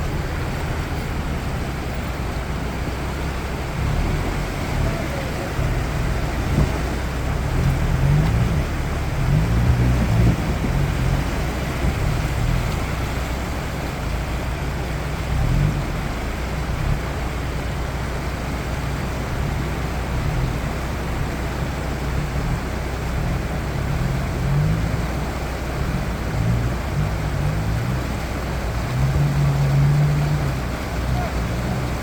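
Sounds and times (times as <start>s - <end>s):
car engine rumbling off-road: 0.0s - 32.0s.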